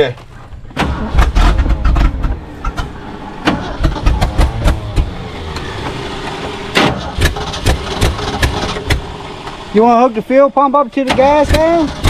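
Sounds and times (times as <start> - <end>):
engine cranking on starter: 0.7 - 10.1, 11.0 - 12.0.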